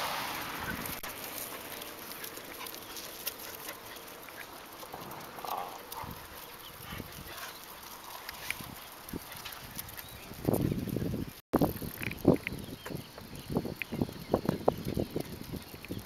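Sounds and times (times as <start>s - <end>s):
dog paws ticking on asphalt: 0.3s - 16.0s.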